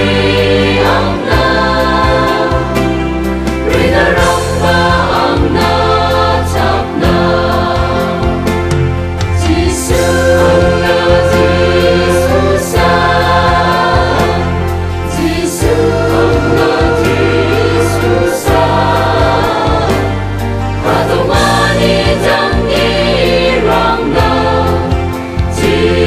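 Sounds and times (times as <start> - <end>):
choir singing gospel song: 0.0 - 26.0.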